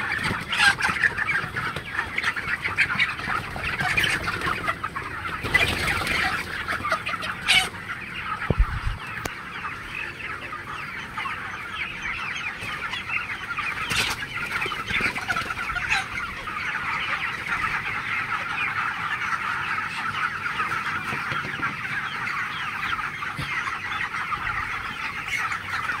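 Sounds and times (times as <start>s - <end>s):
chickens calling: 0.0s - 26.0s.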